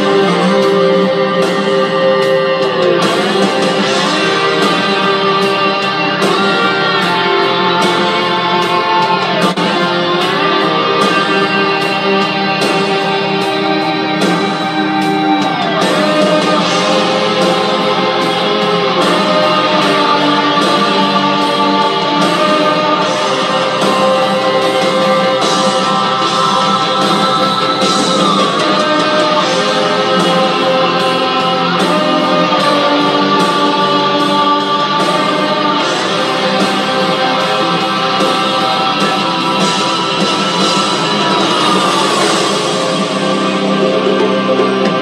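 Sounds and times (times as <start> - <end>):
electric guitar bending notes: 0.0 - 45.0.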